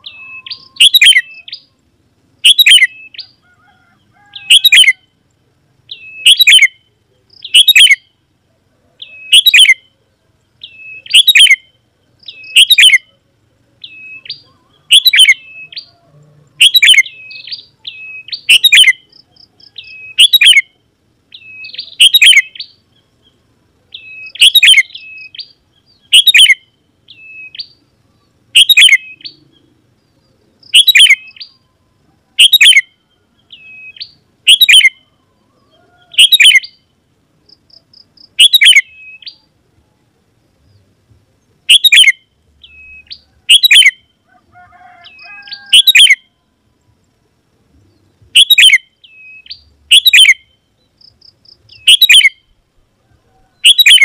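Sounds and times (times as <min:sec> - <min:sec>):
bulbul sharp calls: 0:00.0 - 0:39.6, 0:41.4 - 0:46.4, 0:47.8 - 0:54.0.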